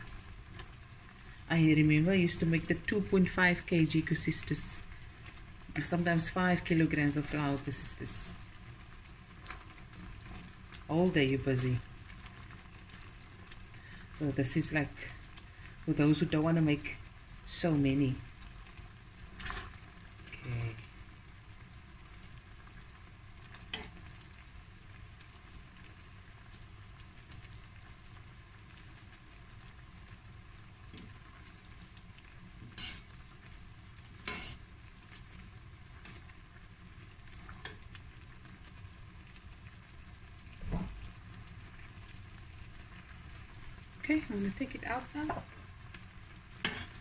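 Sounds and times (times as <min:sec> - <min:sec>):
syrup bubbling in a pan: 0:00.0 - 0:47.0.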